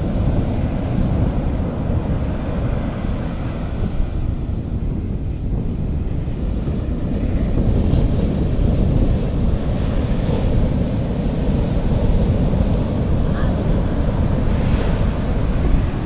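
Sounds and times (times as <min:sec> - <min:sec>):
sea waves washing onto beach: 0:00.0 - 0:16.0
wind buffeting microphone: 0:00.0 - 0:16.0.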